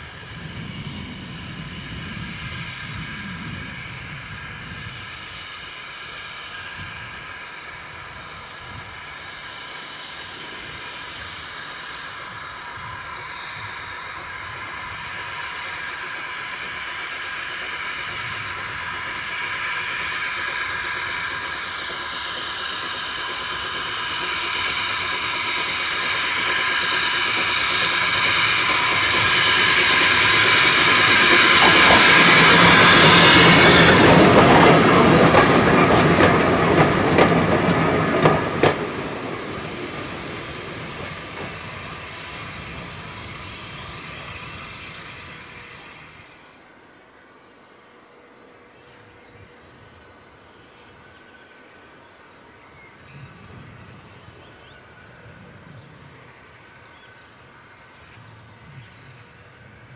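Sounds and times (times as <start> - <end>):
steam hissing: 0.0 - 59.9
steam locomotive rumble: 0.0 - 59.9.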